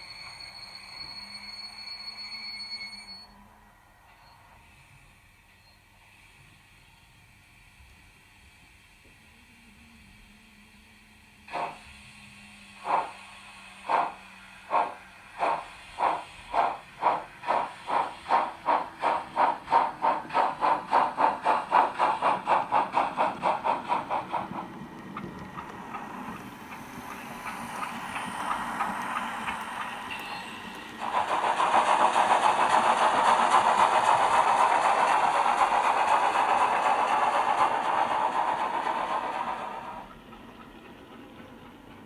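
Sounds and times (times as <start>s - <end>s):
model steam locomotive chuffs: 0.0s - 42.0s.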